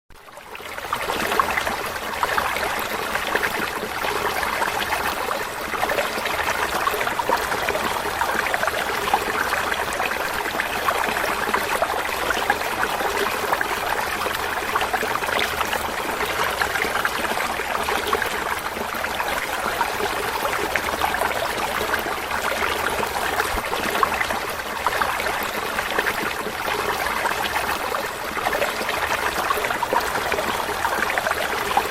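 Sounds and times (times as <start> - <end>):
stream babbling and trickling: 0.1 - 31.9.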